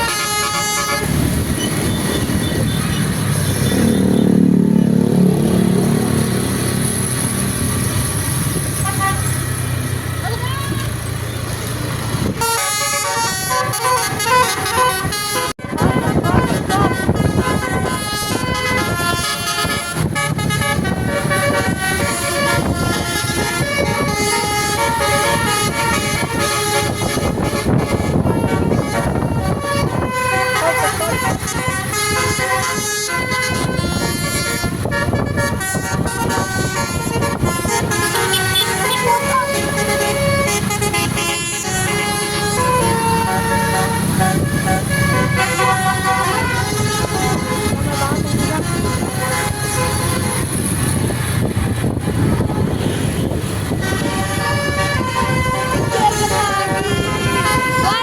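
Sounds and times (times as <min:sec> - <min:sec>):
multi-tone bus horn melody: 0:00.0 - 0:11.0, 0:12.2 - 0:58.0.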